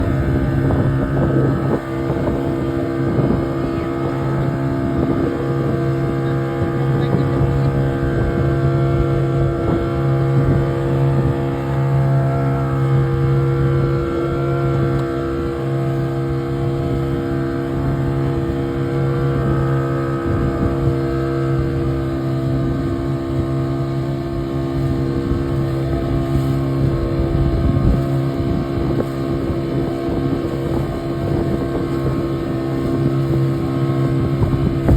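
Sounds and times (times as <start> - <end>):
boat engine running: 0.0 - 34.9
wind buffeting microphone: 0.0 - 34.9.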